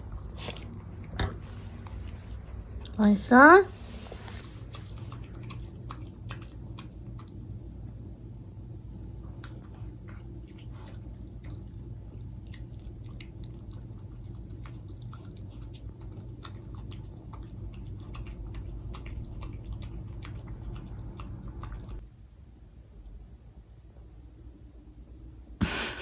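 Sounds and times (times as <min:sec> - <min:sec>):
dog chewing food: 0:00.0 - 0:08.2, 0:08.9 - 0:22.0
low hum: 0:00.0 - 0:26.0.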